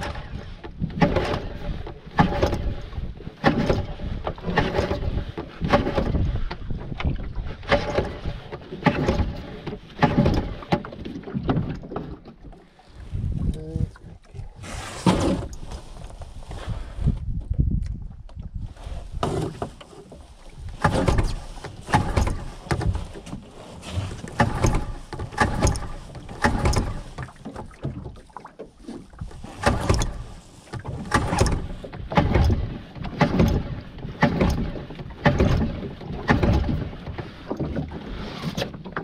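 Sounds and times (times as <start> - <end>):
paddle splashing water: 0.0 - 39.0.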